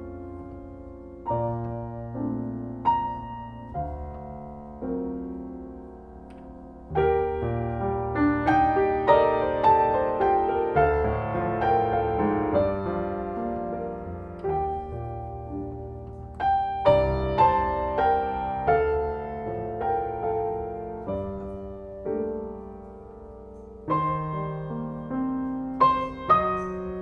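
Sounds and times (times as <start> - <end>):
solo piano chords: 0.0 - 27.0.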